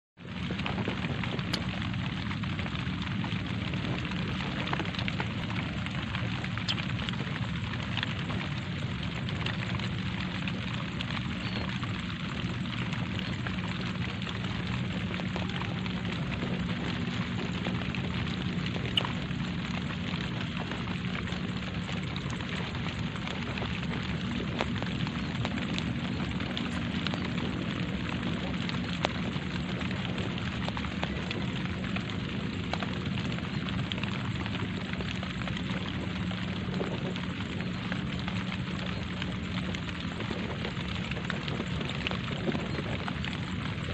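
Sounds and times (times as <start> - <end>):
light rain falling: 0.2 - 43.9
drops ticking: 0.3 - 43.9.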